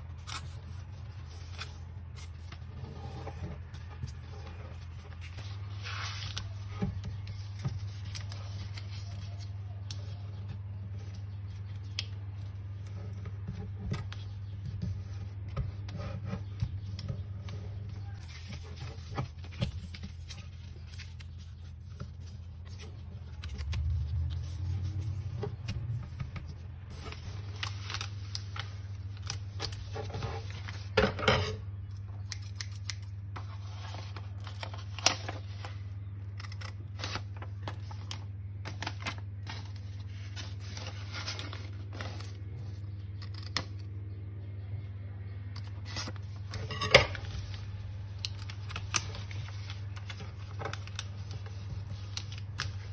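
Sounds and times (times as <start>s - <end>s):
paper crackles: 0.0s - 31.0s, 31.9s - 43.8s, 45.6s - 52.9s
paper rustling and folding: 0.0s - 31.2s, 31.8s - 43.8s, 45.6s - 52.9s.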